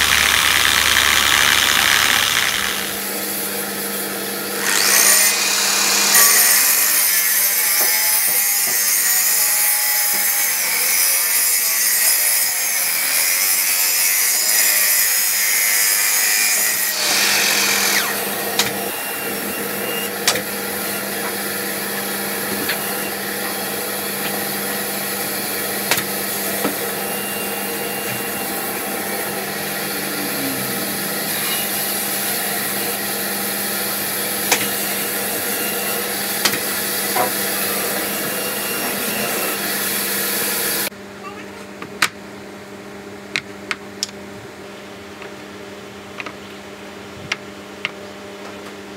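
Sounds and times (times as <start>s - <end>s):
miter saw cutting wood: 0.0s - 40.9s
steady shop hum: 0.0s - 41.4s.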